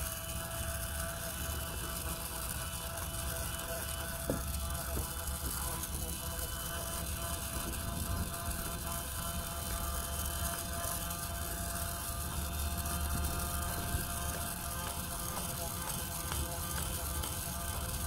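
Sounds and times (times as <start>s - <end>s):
small toy motor buzzing: 0.0s - 18.0s.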